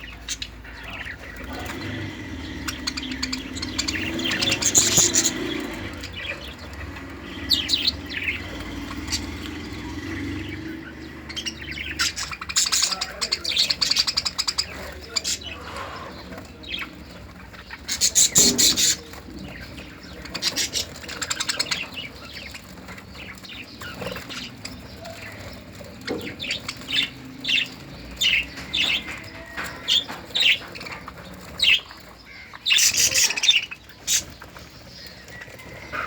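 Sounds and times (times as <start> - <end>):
parrots chirping and squawking: 0.0 - 36.0.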